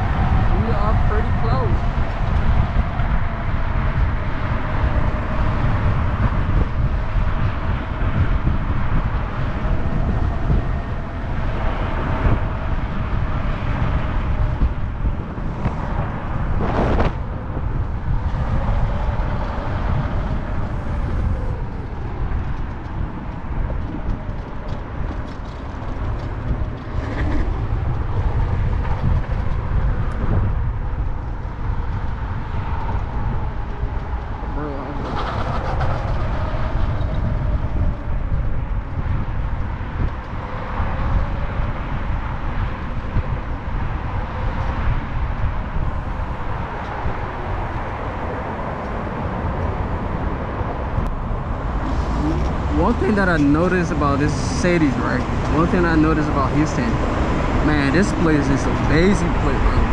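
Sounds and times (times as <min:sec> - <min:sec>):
road and engine rumble in car: 0:00.0 - 0:59.9.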